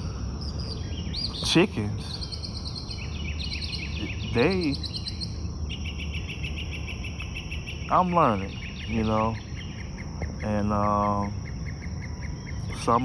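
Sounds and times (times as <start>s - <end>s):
low background hum: 0.0s - 13.0s
songbirds chirping and trilling: 0.0s - 13.0s.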